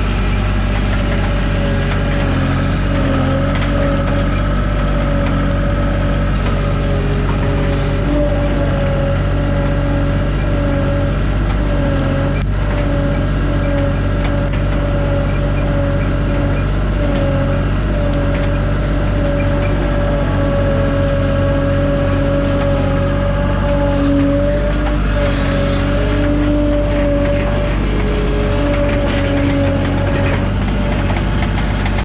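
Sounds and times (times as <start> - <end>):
steady whine: 0.0 - 32.0
tractor engine running: 0.0 - 32.0.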